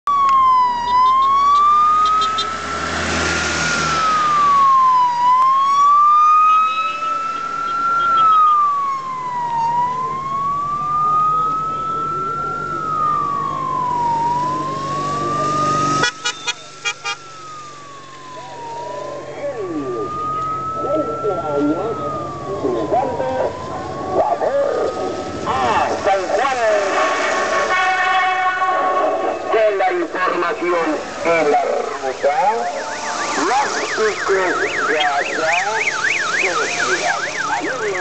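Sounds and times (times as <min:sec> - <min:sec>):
vehicle siren wailing: 0:00.0 - 0:38.0.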